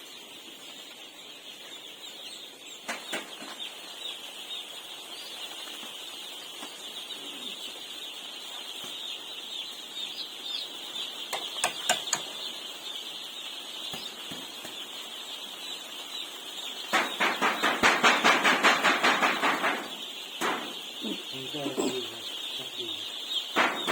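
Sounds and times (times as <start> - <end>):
chicks peeping: 0.0 - 23.9.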